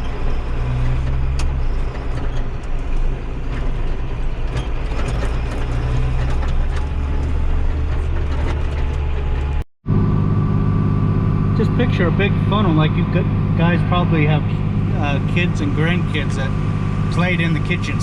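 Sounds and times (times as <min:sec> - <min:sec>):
tractor engine drone: 0:00.0 - 0:18.0.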